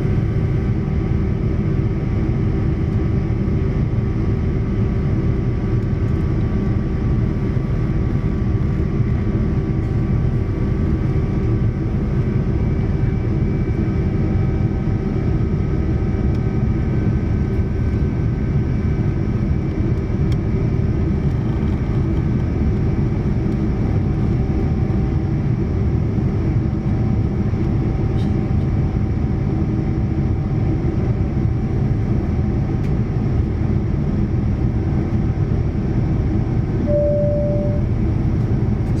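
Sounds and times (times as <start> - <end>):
airflow roar in aircraft cabin: 0.0 - 39.0
faint steady engine tones: 0.0 - 39.0.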